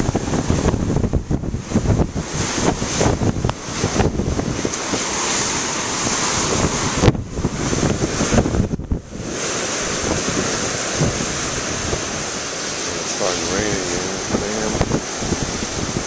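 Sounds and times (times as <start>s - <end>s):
ocean surf breaking over rocks: 0.0s - 16.0s
wind buffeting microphone: 0.0s - 16.0s.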